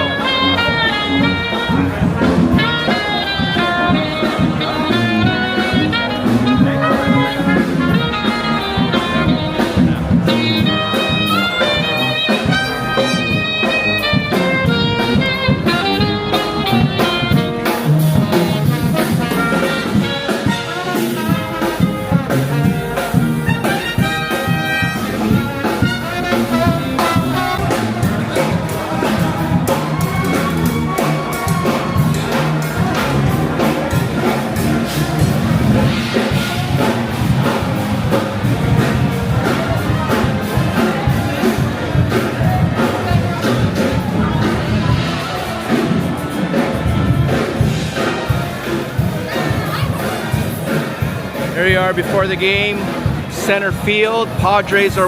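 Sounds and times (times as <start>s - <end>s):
saxophone: 0.0s - 53.0s
trombone: 0.0s - 53.6s
trumpet: 0.0s - 55.0s.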